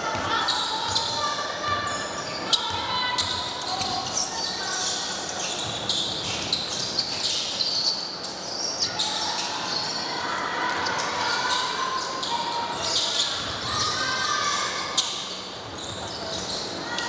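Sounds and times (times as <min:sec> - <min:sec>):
sneakers squeaking: 0:00.0 - 0:17.0.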